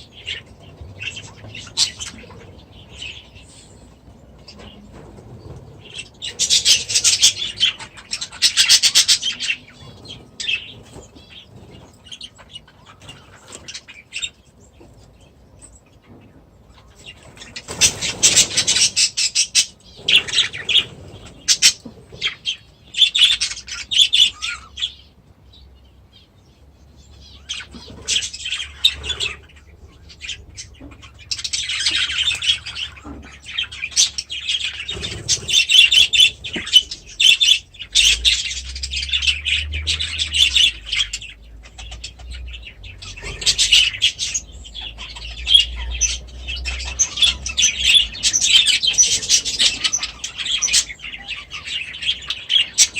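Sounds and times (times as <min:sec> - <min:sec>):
small birds chirping and chattering: 0:00.0 - 0:52.9.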